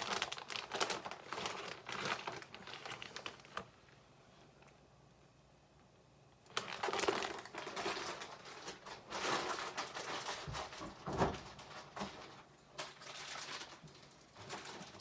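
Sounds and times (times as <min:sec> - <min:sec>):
plastic bag crinkling: 0:00.0 - 0:04.0, 0:06.4 - 0:15.0.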